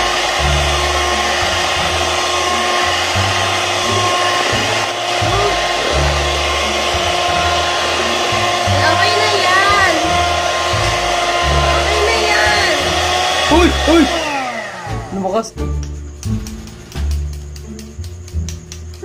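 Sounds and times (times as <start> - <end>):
electric hand mixer whirring: 0.0 - 15.4.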